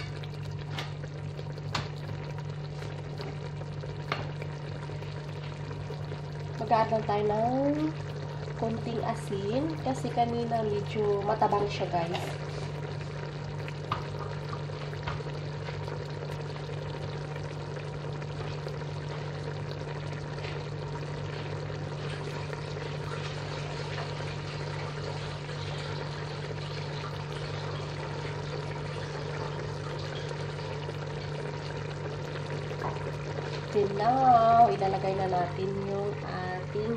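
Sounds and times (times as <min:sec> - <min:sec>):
sauce bubbling and sizzling in pot: 0:00.0 - 0:36.9
steady low hum: 0:00.0 - 0:36.9.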